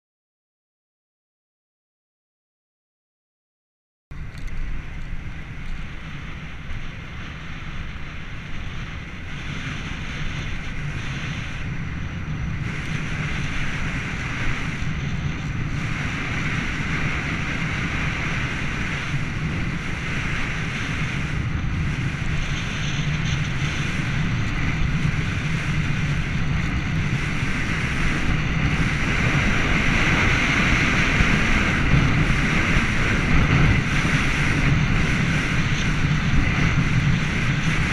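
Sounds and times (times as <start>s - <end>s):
wind buffeting microphone: 4.1s - 37.9s.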